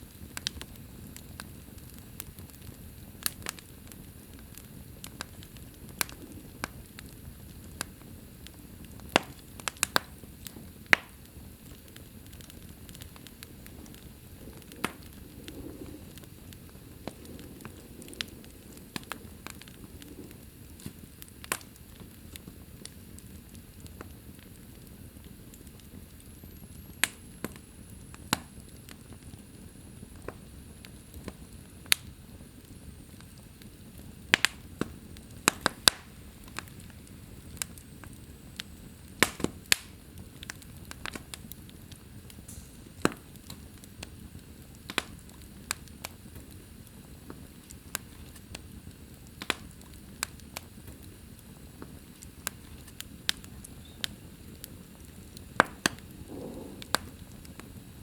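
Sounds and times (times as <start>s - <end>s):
low hiss of burning: 0.0s - 58.0s
wood fire popping and snapping: 0.0s - 58.0s.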